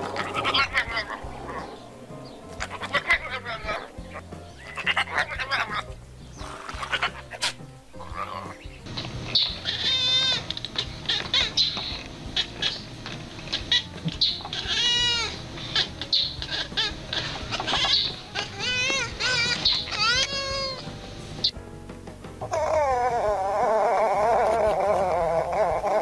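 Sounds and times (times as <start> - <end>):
cat meowing: 0.0 - 12.9, 13.5 - 20.9, 22.4 - 26.0.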